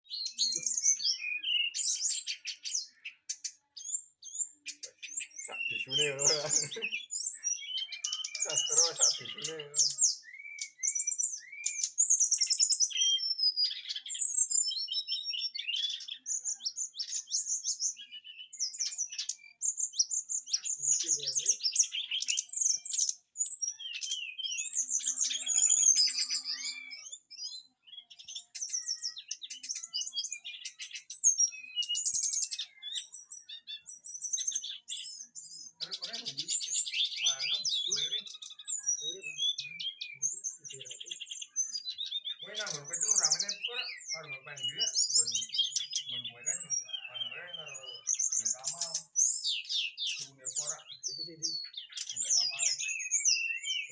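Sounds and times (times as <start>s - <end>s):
bird singing high chirps and trills: 0.0s - 53.9s.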